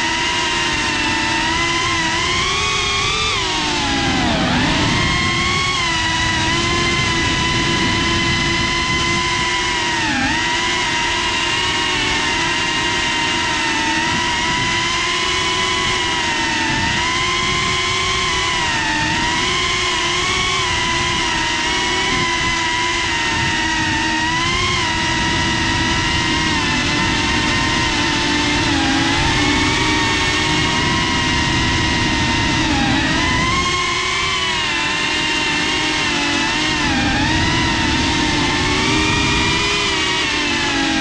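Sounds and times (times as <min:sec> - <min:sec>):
drone motors whining: 0:00.0 - 0:41.0.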